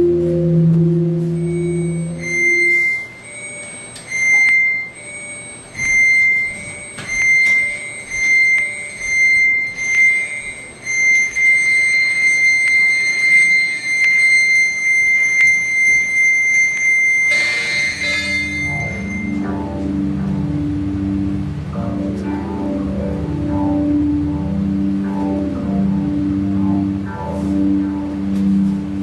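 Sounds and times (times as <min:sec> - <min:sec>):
high electronic beeping: 0:00.0 - 0:29.0.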